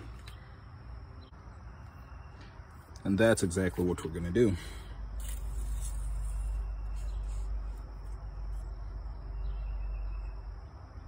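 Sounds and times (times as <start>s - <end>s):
insects calling: 0.0s - 11.0s.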